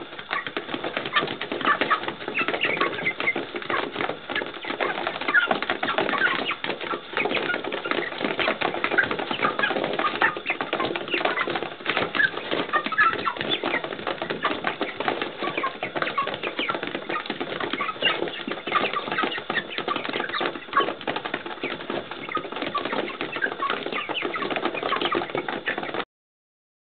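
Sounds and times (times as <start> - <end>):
beaks pecking at feed: 0.0 - 26.0
chicks cheeping: 0.0 - 26.0
wings flapping: 0.0 - 26.0.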